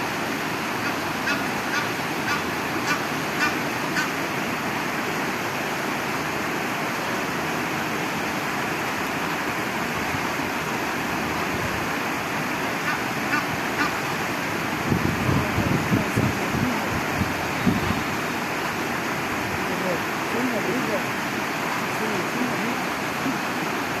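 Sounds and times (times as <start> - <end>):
rushing water or wind: 0.0 - 24.0.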